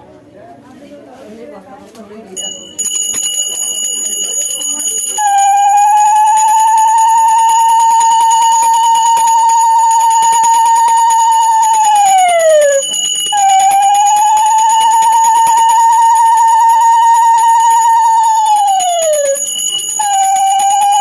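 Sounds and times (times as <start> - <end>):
bell ringing: 2.4 - 21.0.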